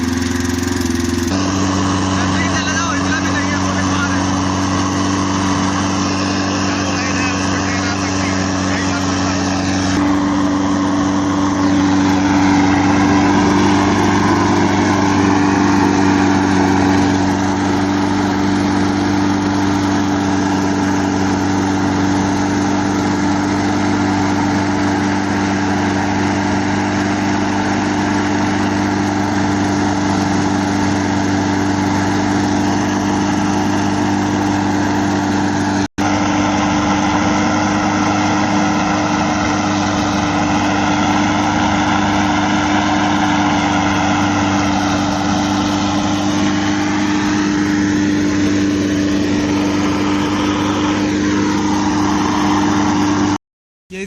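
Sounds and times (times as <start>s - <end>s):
burner roaring: 0.0s - 53.4s
low engine-like hum: 0.0s - 54.0s.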